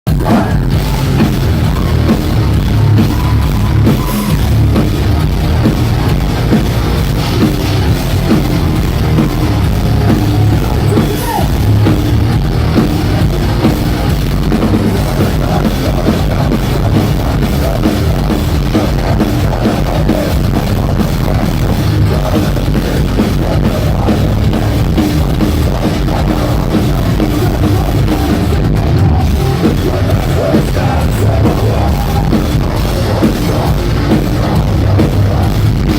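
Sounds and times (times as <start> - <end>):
metalcore band playing: 0.1 - 35.9
pounding drum kit: 0.1 - 35.9.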